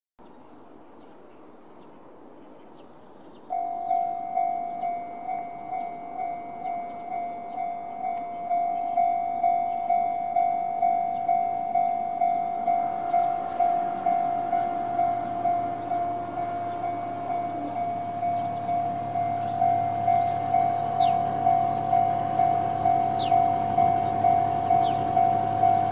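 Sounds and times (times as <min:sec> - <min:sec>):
diesel railcar rumble: 0:02.0 - 0:25.9
level crossing bell ringing: 0:03.5 - 0:25.9.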